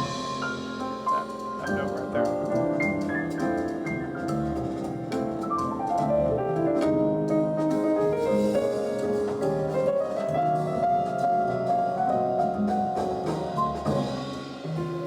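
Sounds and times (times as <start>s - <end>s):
jazz piano over loudspeakers: 0.0s - 15.0s
light percussion: 0.0s - 15.0s.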